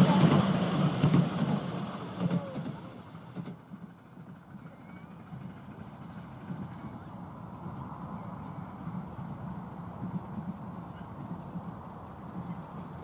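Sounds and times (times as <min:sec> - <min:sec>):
miniature train rapid clicks: 0:00.0 - 0:13.0.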